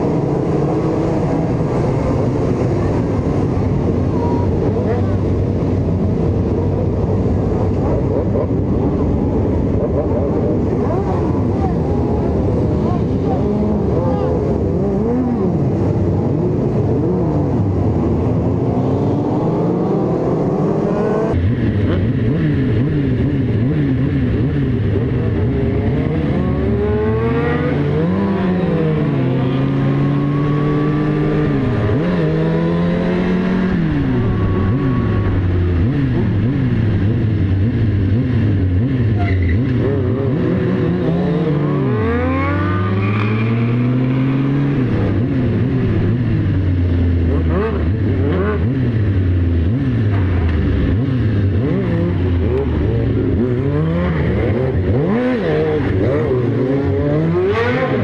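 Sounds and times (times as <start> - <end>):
motorcycle accelerating through gears: 0.0 - 58.0
motorcycle engines revving: 0.0 - 58.0.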